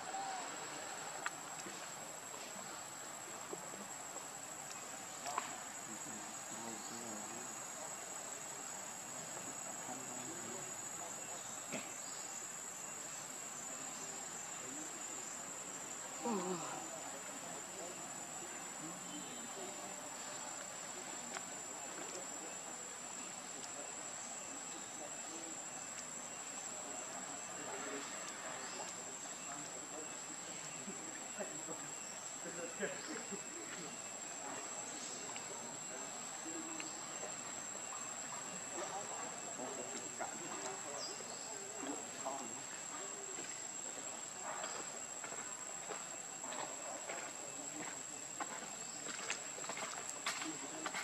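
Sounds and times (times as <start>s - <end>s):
soft distant voices: 0.0s - 51.0s.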